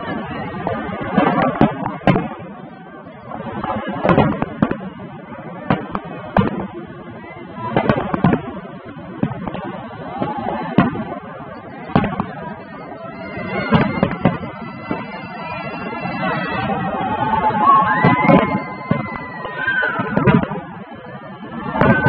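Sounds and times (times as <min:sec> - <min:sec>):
background rumble: 0:00.0 - 0:22.0
fireworks bangs: 0:00.0 - 0:22.0.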